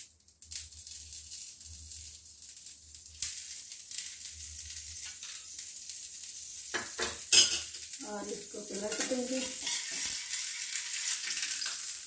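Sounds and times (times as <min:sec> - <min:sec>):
oil sizzling on a hot pan: 0:00.0 - 0:12.0.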